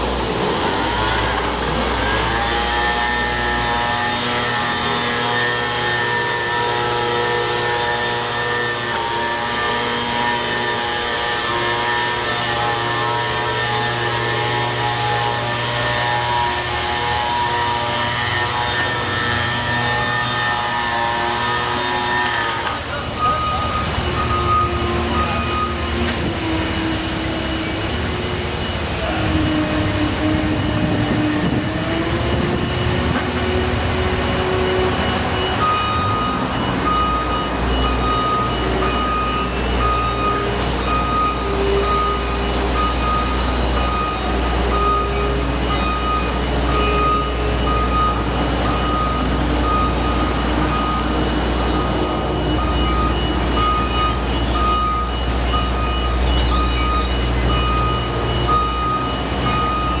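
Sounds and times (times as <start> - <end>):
heavy vehicle engine running: 0.0 - 60.0
reversing alarm beeping: 0.2 - 60.0.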